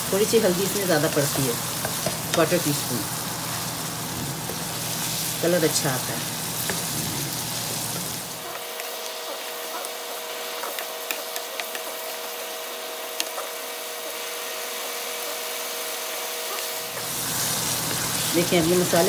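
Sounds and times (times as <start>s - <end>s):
chicken sizzling in oil: 0.0s - 19.0s.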